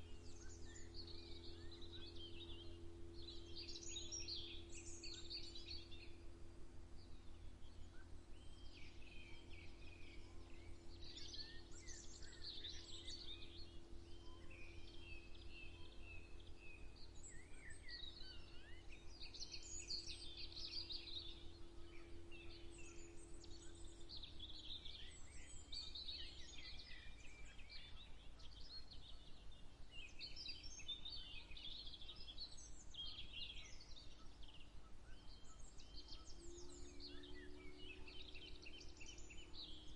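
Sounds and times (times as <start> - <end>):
birds singing and chirping: 0.0 - 39.9
faint low hum: 0.0 - 39.9.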